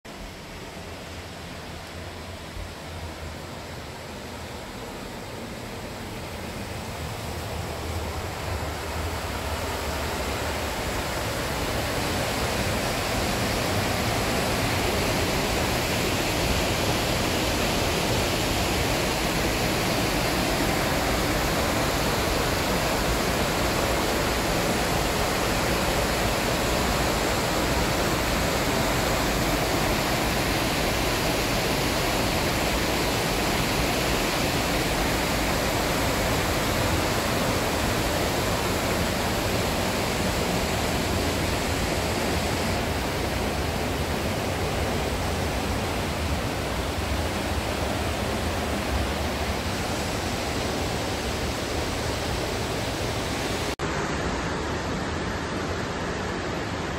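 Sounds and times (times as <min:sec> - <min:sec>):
stream rushing over rocks: 0:00.1 - 0:56.9.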